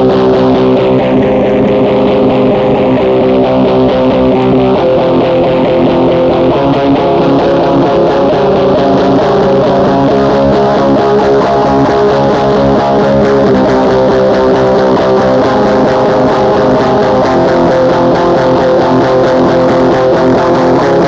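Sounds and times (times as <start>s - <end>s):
black metal music: 0.0s - 21.0s.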